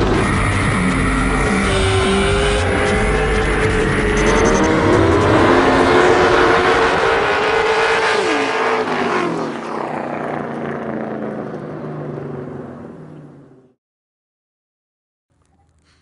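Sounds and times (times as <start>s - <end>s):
racing engine at high revs: 0.0s - 13.6s.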